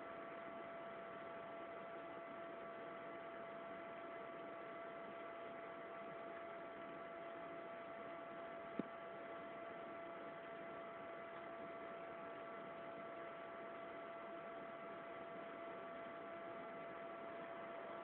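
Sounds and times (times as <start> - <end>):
electrical hum and hiss: 0.0 - 18.0
faint constant tones: 0.0 - 18.0.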